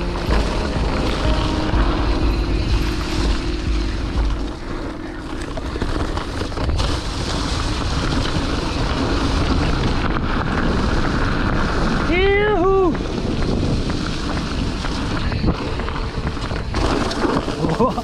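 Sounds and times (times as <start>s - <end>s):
bike tyre rumble: 0.0s - 18.0s
wind noise on microphone: 0.0s - 18.0s.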